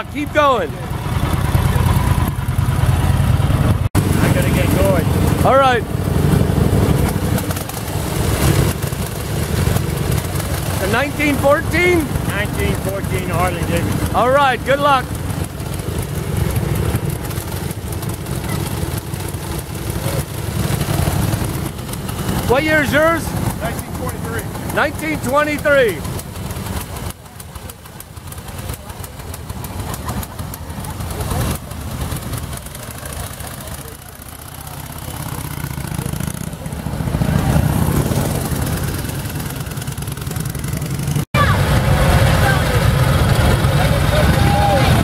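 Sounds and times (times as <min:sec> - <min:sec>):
motorcycle engine rumbling: 0:00.0 - 0:45.0.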